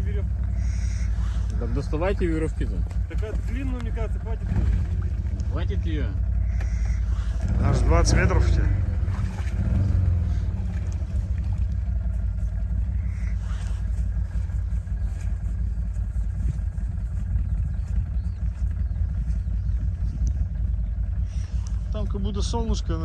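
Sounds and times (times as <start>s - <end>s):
quad bike engine idling: 0.0s - 23.0s.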